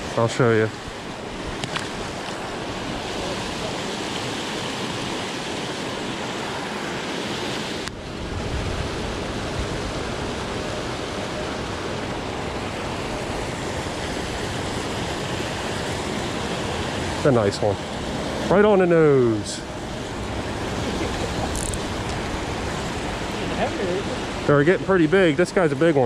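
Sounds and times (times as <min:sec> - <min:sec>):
water rushing over a dam spillway: 0:00.0 - 0:26.0.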